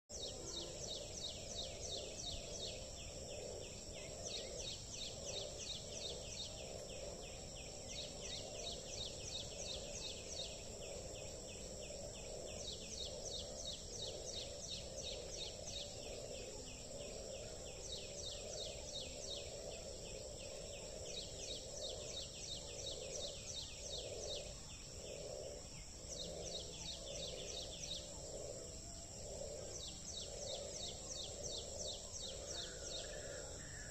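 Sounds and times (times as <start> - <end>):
frogs croaking in chorus: 0.1 - 33.9.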